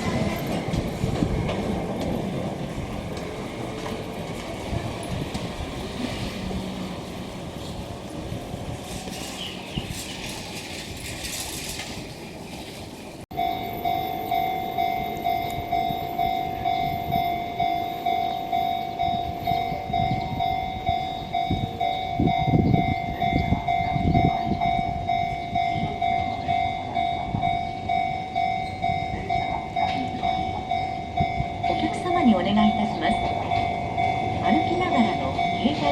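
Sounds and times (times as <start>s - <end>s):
crossing warning bell dinging: 0.0s - 11.5s, 13.3s - 35.9s
low train rumble: 0.0s - 35.9s.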